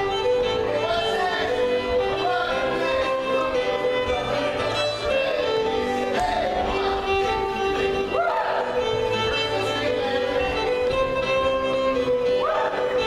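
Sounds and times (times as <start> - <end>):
fiddle playing dance tune: 0.0 - 13.0
musical accompaniment: 0.0 - 13.0.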